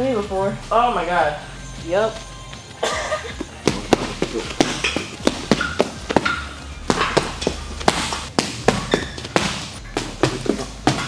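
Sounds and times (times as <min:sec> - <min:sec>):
faint music: 0:00.0 - 0:11.0.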